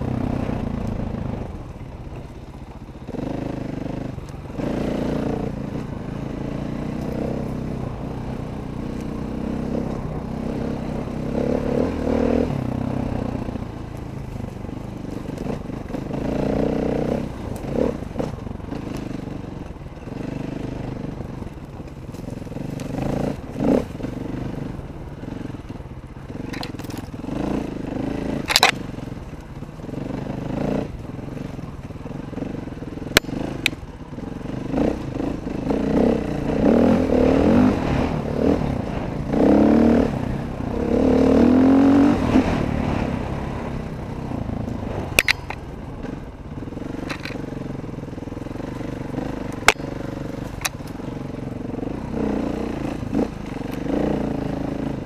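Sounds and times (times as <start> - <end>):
dirt bike engine revving: 2.9 - 55.0.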